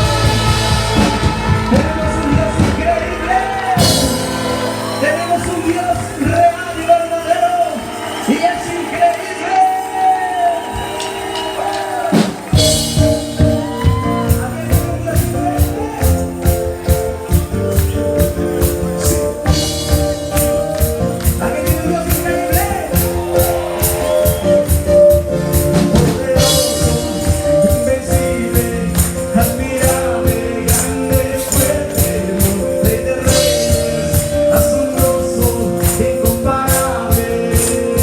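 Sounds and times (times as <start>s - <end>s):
live band playing worship song: 0.0s - 38.0s.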